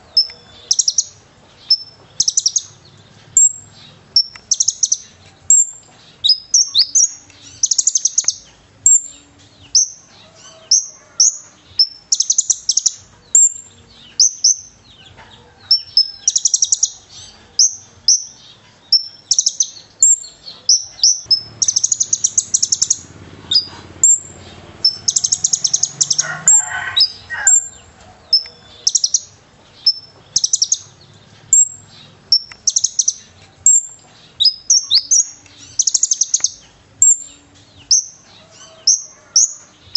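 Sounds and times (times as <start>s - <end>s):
sunbird high chirps and trills: 0.0s - 15.1s, 15.7s - 39.9s.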